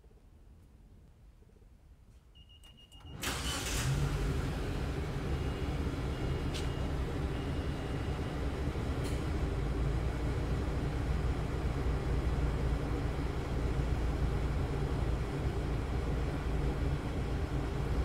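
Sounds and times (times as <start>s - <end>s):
car engine starting and idling: 2.7s - 18.0s.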